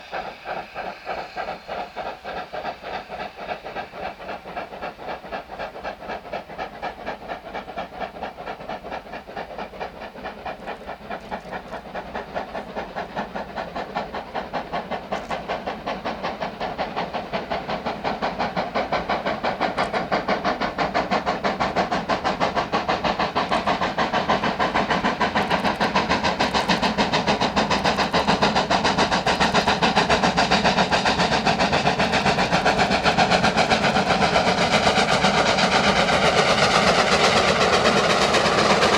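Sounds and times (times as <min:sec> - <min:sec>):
steam locomotive chuffing: 0:00.0 - 0:38.9.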